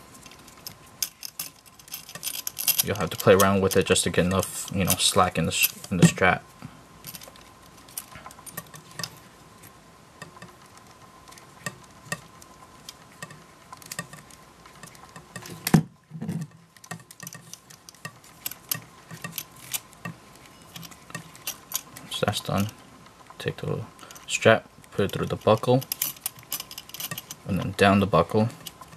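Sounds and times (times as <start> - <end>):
small clicks and rustles: 0.0 - 6.0, 7.0 - 28.9.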